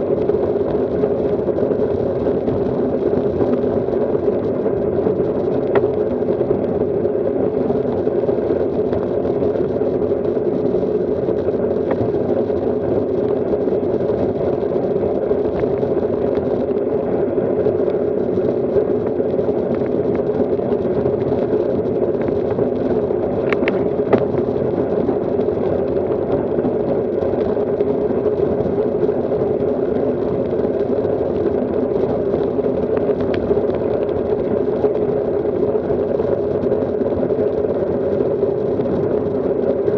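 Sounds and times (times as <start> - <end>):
bike tyres rolling on asphalt: 0.0 - 39.9
wind rushing over microphone: 0.0 - 39.9.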